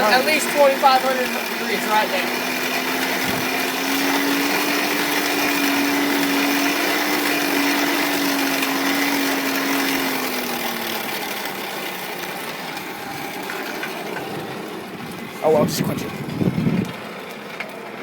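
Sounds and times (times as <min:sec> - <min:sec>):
electric air blower whirring: 0:00.0 - 0:17.9.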